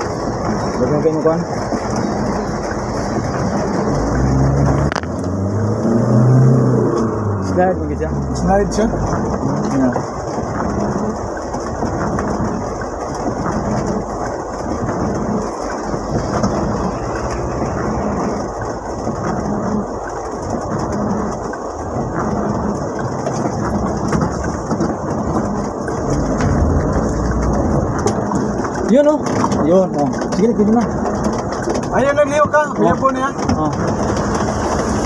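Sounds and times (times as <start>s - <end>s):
van engine and road noise: 0.0s - 35.0s.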